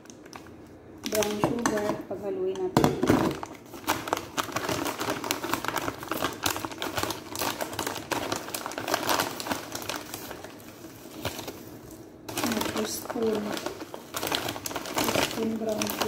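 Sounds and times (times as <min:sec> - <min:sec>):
plastic bag crinkling: 0:00.0 - 0:01.9, 0:02.5 - 0:16.0.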